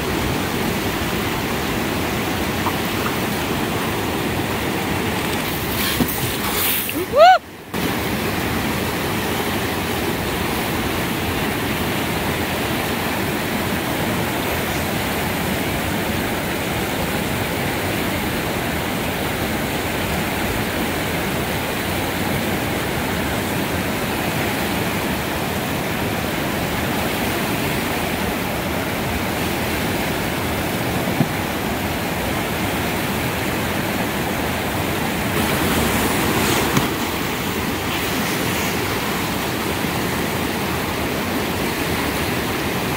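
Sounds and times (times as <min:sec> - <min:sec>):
river rapids roaring: 0:00.0 - 0:42.9.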